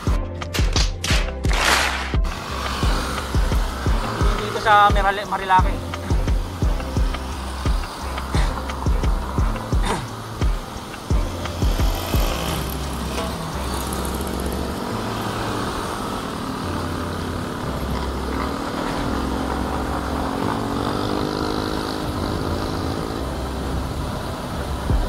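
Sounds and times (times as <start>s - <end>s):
motorcycle engine passing: 1.6s - 25.0s.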